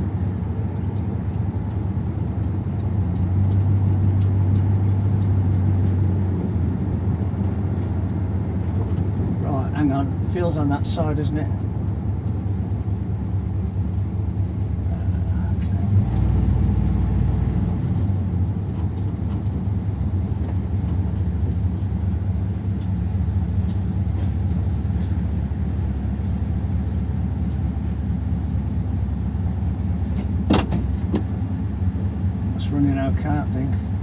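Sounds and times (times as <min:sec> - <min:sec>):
car engine running low hum: 0:00.0 - 0:34.0.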